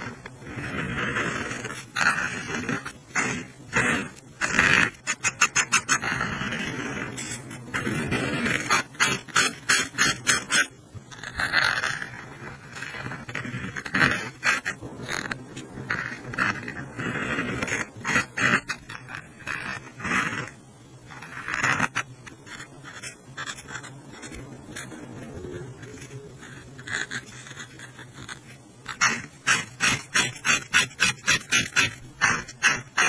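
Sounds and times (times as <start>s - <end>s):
marker scrubbing and tapping on paper: 0.0s - 33.0s.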